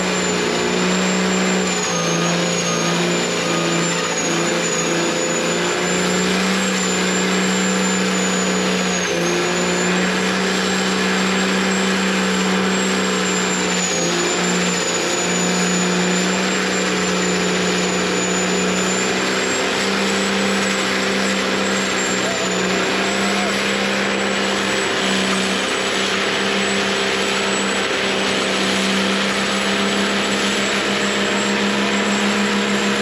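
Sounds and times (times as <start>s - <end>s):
diesel truck engine at high revs: 0.0s - 33.0s
high-pitched whine: 0.0s - 33.0s.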